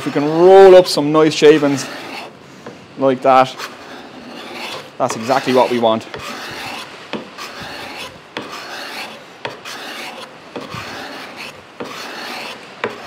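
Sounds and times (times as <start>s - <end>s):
card scraper scraping wood: 0.0s - 2.8s, 3.4s - 13.0s.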